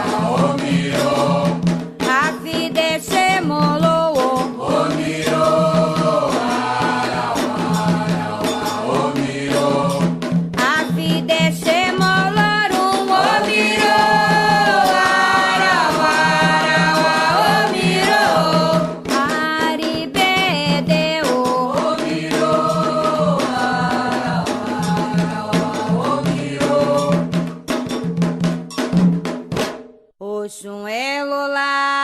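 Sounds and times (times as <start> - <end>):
voices singing a chant: 0.0 - 19.4, 20.1 - 27.4
drums and percussion: 0.0 - 30.2.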